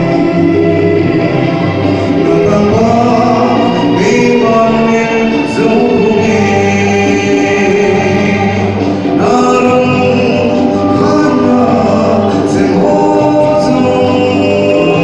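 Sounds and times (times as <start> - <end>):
musical accompaniment: 0.0 - 15.0
person singing into microphone: 0.0 - 15.0.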